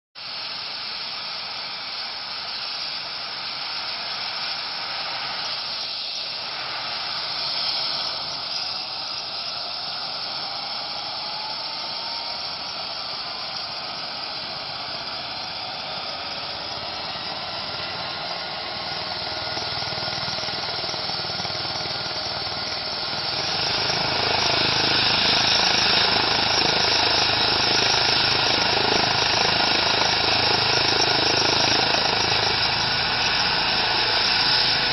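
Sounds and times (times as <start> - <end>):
helicopter turbine running: 0.2 - 34.9.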